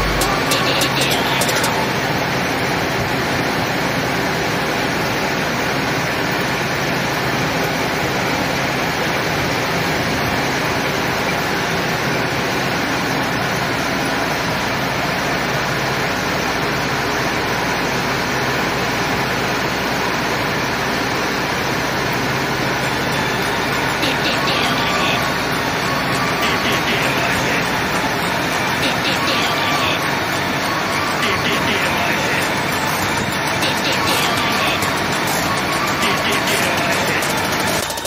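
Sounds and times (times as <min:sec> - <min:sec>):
metal lathe cutting: 0:00.0 - 0:38.0.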